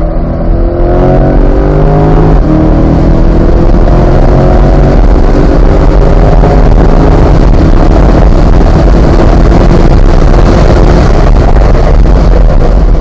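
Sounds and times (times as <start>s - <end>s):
car engine at speed: 0.0s - 13.0s
road noise: 0.0s - 13.0s
wind noise: 0.0s - 13.0s.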